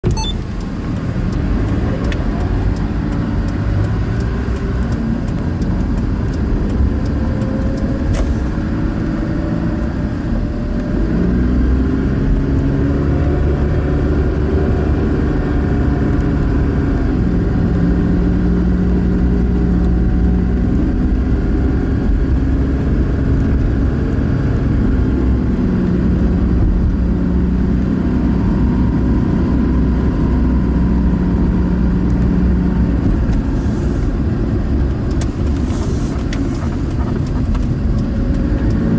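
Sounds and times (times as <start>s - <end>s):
car engine: 0.0s - 38.9s
road noise: 0.0s - 38.9s.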